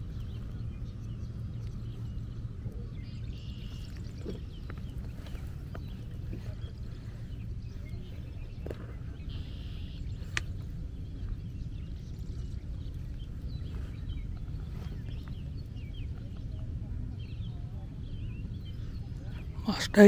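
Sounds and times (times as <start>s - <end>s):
faint chirps: 0.0s - 20.0s
steady low rumble: 0.0s - 20.0s.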